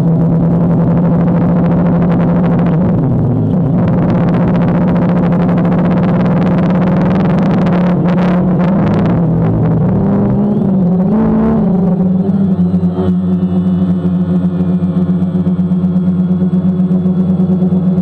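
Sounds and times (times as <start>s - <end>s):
drone motors humming: 0.0s - 18.0s.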